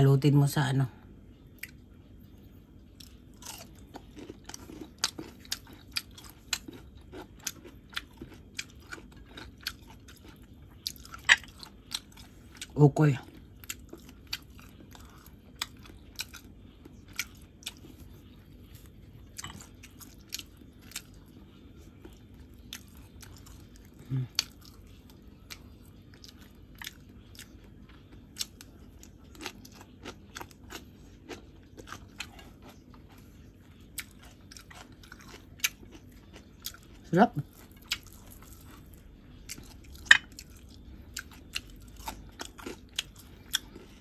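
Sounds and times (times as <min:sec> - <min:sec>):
chewing food: 0:01.5 - 0:02.1, 0:02.8 - 0:44.0.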